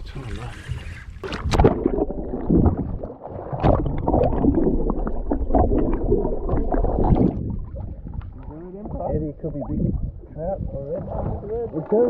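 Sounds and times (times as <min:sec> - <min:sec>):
muffled underwater gurgling: 0:00.0 - 0:12.0.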